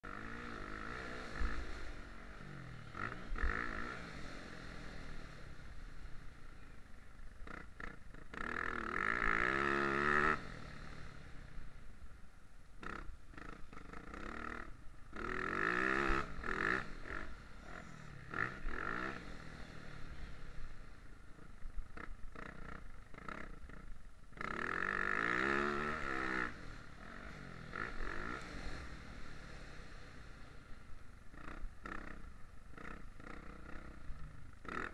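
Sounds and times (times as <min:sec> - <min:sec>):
motocross bike engine revving: 0:00.0 - 0:12.0, 0:12.7 - 0:34.9.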